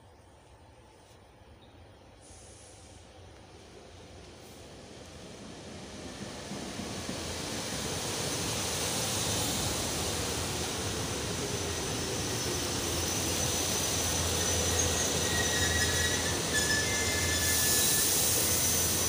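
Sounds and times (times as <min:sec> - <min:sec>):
train wheels rushing on rails: 0:02.1 - 0:19.0.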